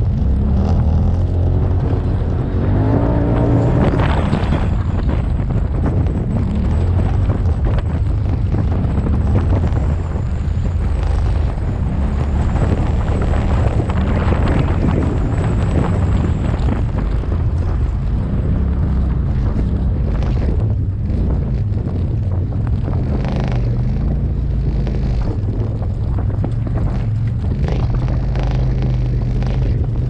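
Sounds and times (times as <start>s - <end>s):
off-road vehicle engine rumbling: 0.0s - 30.0s
wind buffeting microphone: 0.0s - 30.0s.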